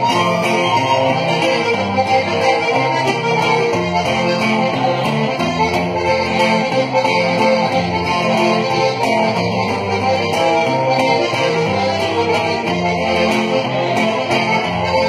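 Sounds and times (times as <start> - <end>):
button accordion: 0.0 - 15.0
strummed guitar: 0.0 - 15.0.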